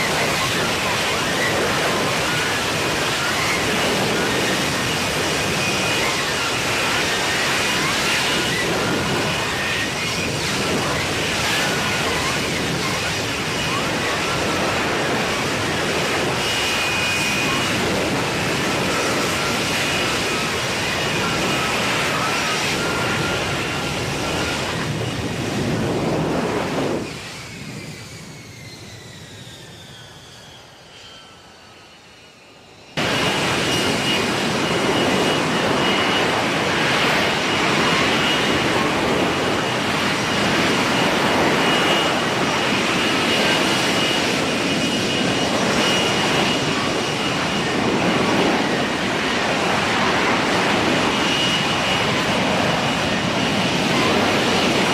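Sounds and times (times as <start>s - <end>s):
falling jet whine: 0.0s - 54.9s
jet engine roaring: 0.0s - 54.9s.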